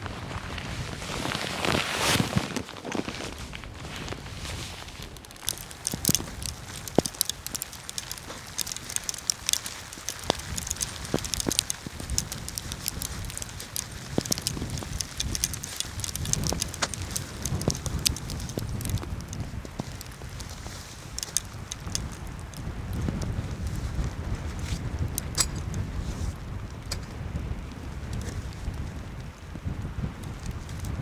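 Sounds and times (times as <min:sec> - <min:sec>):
wind gusting over microphone: 0:04.2 - 0:31.0
sharp clicks and crackles: 0:04.5 - 0:29.4.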